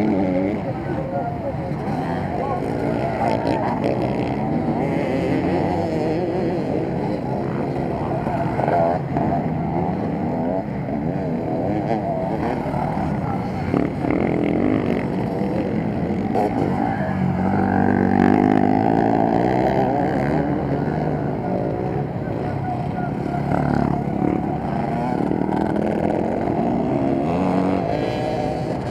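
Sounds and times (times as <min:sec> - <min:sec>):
motocross bikes revving: 0:00.0 - 0:28.9.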